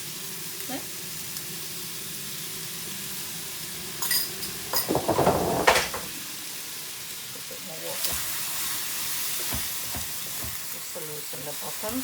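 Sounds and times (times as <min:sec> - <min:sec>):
stir fry sizzling in a pan: 0:00.0 - 0:04.8, 0:06.1 - 0:12.0.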